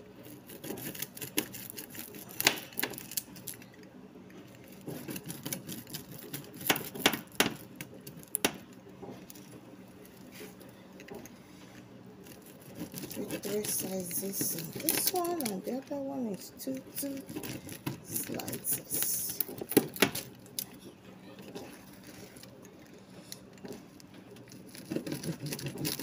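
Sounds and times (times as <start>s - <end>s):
pizza cutter rolling through crust: 0.0s - 3.7s, 4.3s - 26.0s.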